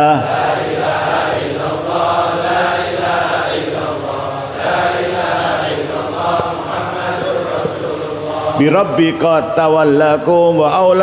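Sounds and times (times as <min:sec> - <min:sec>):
men chanting together: 0:00.0 - 0:11.0.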